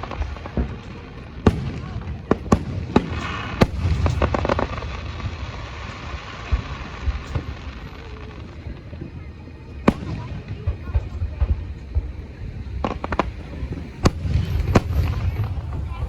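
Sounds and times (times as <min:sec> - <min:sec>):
crackling pops of fireworks: 0:00.0 - 0:16.0
dull firework booms: 0:00.0 - 0:16.0
fireworks sharp bangs: 0:00.0 - 0:16.0.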